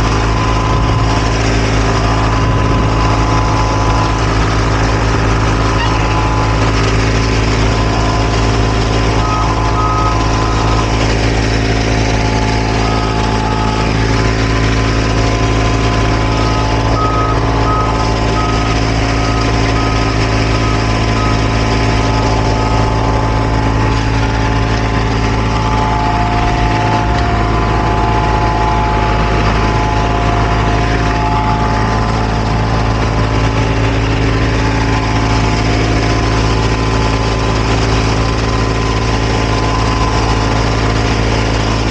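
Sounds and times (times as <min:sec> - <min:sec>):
heavy diesel engine running: 0:00.0 - 0:41.9
reversing alarm beeping: 0:00.0 - 0:41.9.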